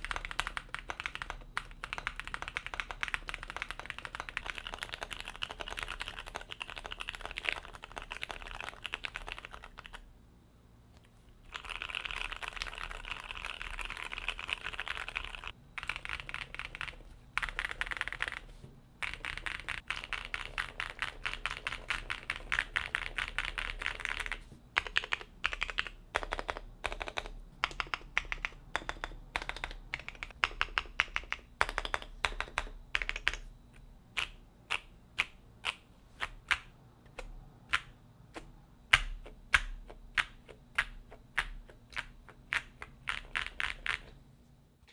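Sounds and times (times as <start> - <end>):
typing on a mechanical keyboard: 0.0 - 10.0, 11.5 - 33.5, 38.9 - 44.2.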